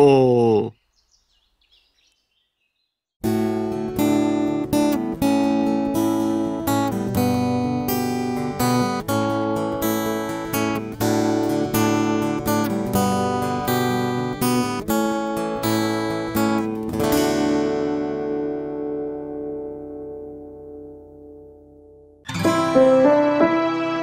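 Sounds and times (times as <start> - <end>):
acoustic guitar strumming: 3.2 - 24.0.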